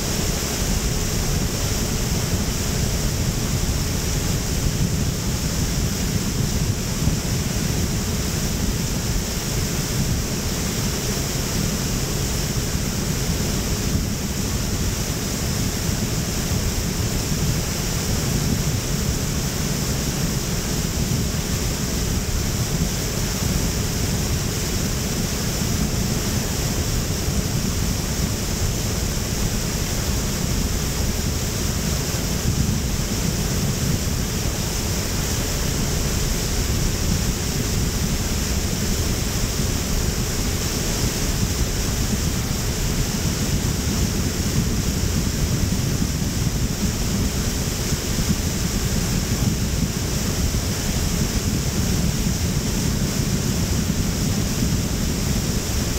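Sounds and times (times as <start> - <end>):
constant high hiss: 0.0 - 55.9
wind and water rushing: 0.0 - 55.9.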